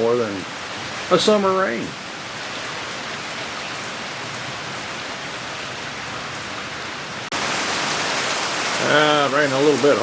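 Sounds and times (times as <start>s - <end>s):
steady rain hissing: 0.0s - 10.0s.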